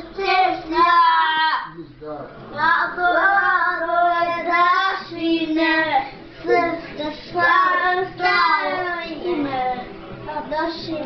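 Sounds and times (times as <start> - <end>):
young children singing: 0.0 - 1.8, 2.6 - 11.0.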